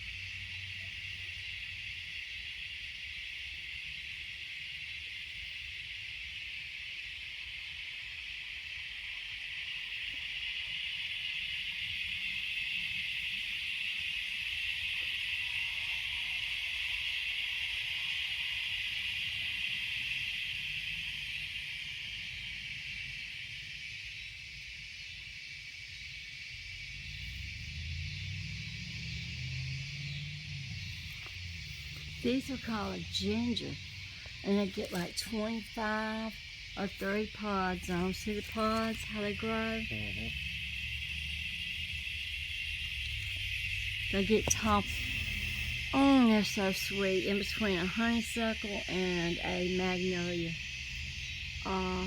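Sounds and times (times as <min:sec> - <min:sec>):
insect chorus droning: 0:00.0 - 0:52.0.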